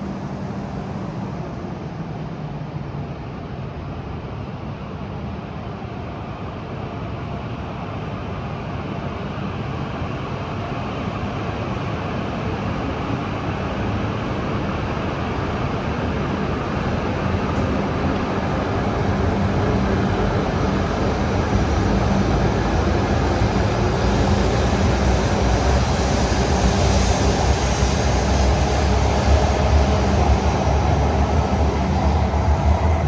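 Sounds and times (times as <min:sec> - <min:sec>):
train running: 0:00.0 - 0:33.0.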